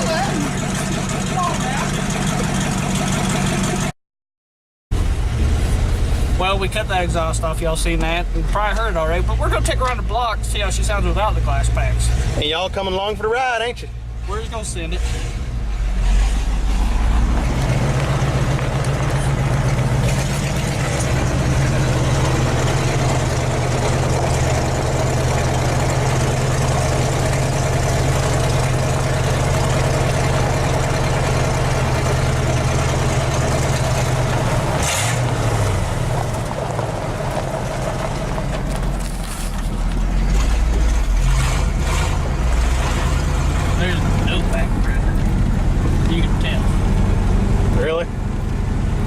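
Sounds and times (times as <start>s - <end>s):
unmuffled pickup engine driving: 0.0s - 3.9s, 4.9s - 49.0s.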